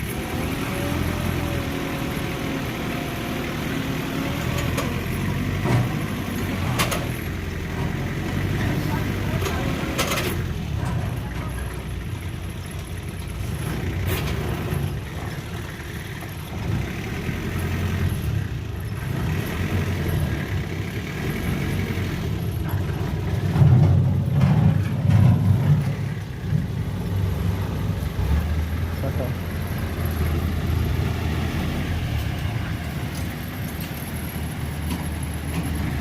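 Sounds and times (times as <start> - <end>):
diesel machinery engine rumble: 0.0 - 36.0.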